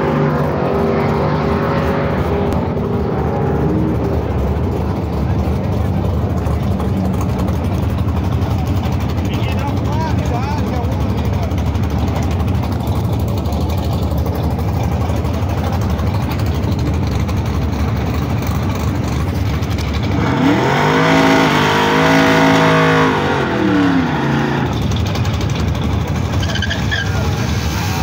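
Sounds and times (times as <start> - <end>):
race car engine revving: 0.0 - 28.0
rumble of other engines: 0.0 - 28.0.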